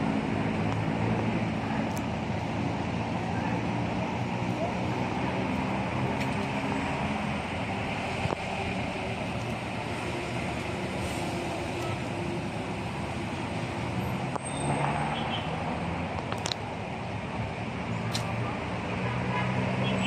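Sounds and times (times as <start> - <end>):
road traffic drone: 0.0 - 20.0.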